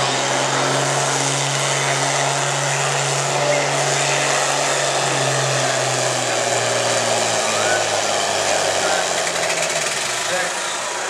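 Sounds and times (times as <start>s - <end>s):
diesel tractor engine lugging: 0.0s - 11.0s.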